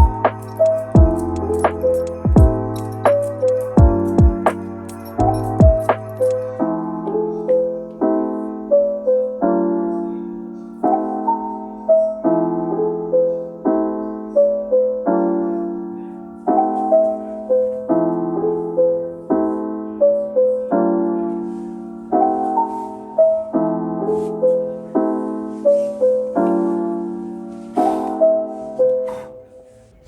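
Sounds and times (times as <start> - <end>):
soft piano music: 0.0 - 30.0.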